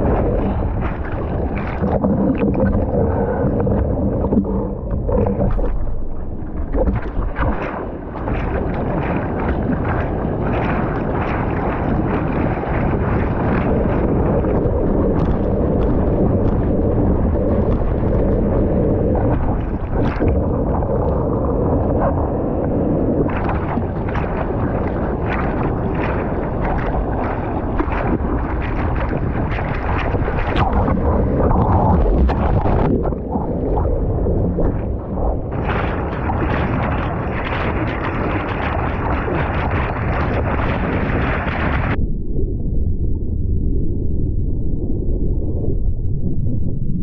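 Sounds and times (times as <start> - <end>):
water splashing and sloshing: 0.0 - 42.0
wind buffeting microphone: 0.0 - 47.0.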